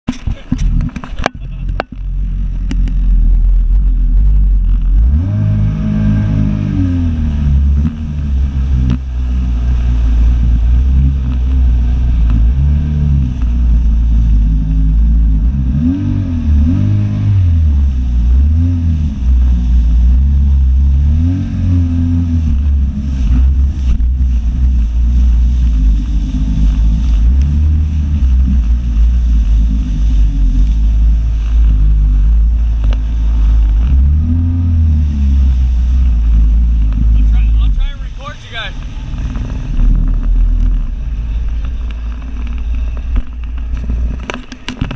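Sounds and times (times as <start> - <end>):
jet ski engine revving: 0.1 - 44.9
rush of water and wind: 0.1 - 44.9.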